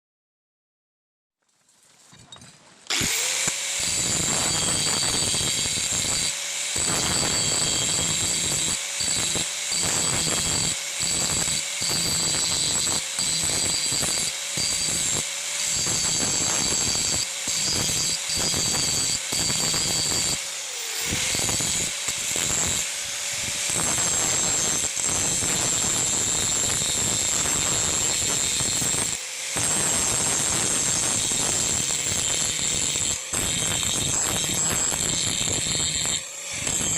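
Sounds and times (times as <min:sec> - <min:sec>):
power tool whining: 0:02.9 - 0:36.9.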